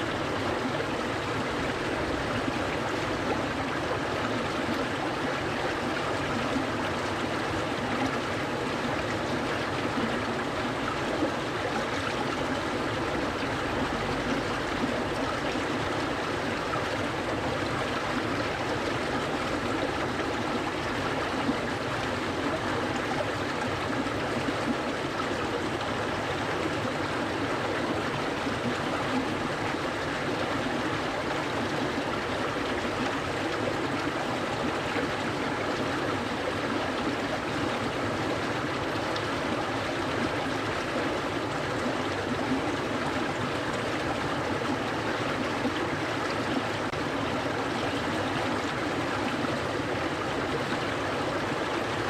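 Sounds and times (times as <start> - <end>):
stream babbling: 0.0 - 52.0.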